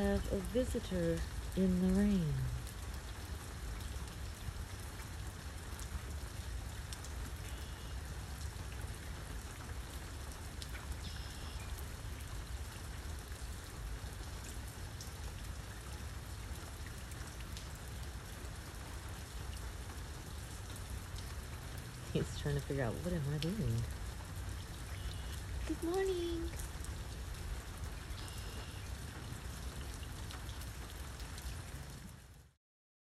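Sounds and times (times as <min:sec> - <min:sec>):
low rumble of rain: 0:00.0 - 0:32.6
raindrops ticking close by: 0:00.0 - 0:32.6.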